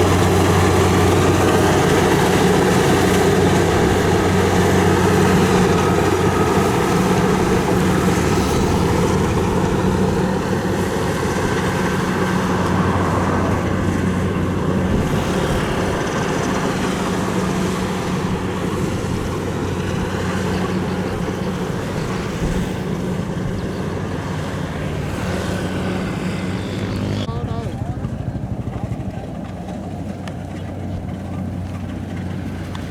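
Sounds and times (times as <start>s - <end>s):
combine harvester diesel engine: 0.0s - 32.9s.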